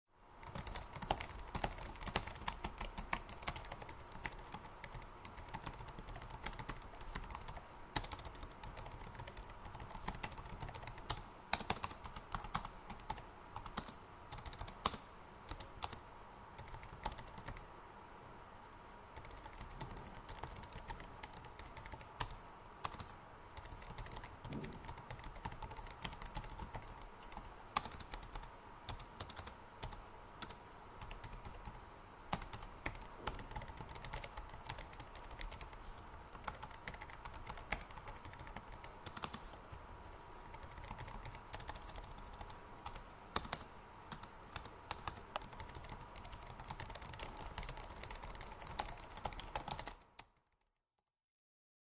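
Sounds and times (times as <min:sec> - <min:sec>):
laptop keyboard typing: 0:00.4 - 0:16.0, 0:16.6 - 0:17.6, 0:19.2 - 0:50.7.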